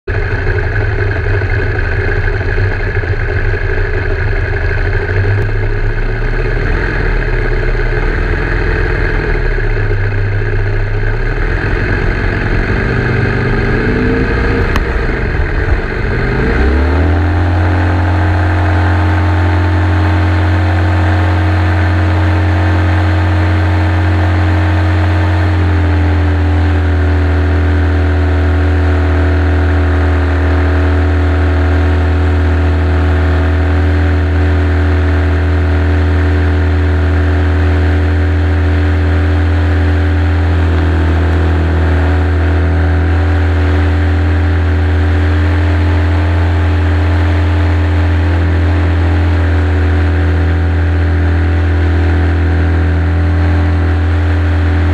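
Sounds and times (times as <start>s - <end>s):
model plane engine running: 0.1s - 54.9s.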